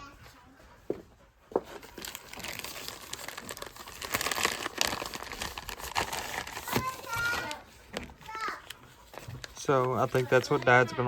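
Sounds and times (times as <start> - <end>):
plastic packaging crinkling: 1.8 - 11.0.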